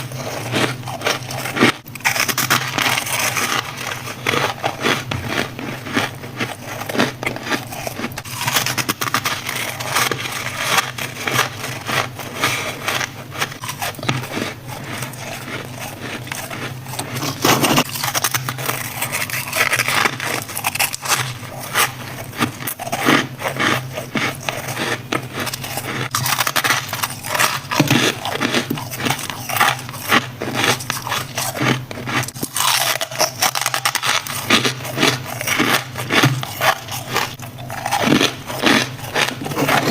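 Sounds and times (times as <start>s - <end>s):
ice being bitten and crunched: 0.0s - 39.9s.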